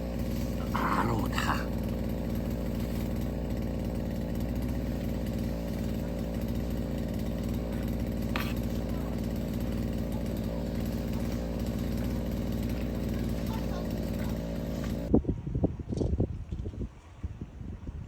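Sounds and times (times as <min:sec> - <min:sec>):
small engine running: 0:00.0 - 0:15.2.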